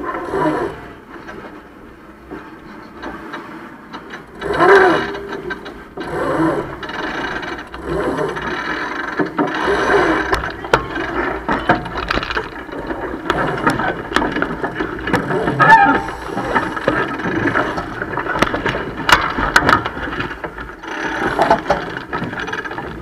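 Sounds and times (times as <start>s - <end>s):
wind: 0.0s - 23.0s
winch ratcheting clicks: 3.0s - 23.0s
water noise: 3.2s - 23.0s
crew calling out: 4.2s - 23.0s.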